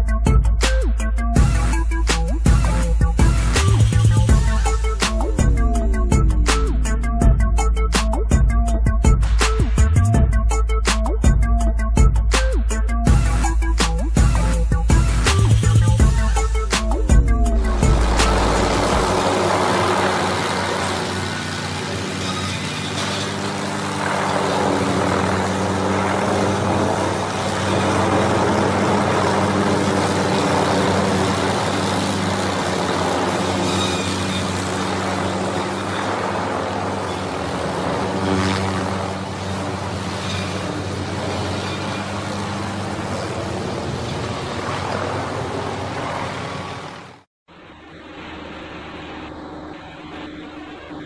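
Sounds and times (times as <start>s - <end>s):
helicopter hum: 0.0s - 51.0s.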